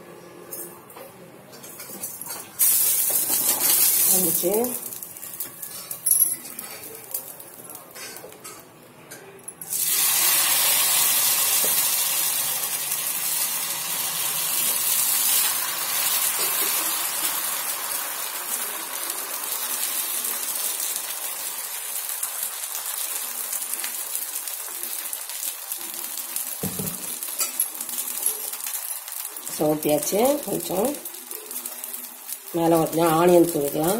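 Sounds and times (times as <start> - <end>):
batter sizzling on hot griddle: 2.5 - 6.0, 9.7 - 33.9.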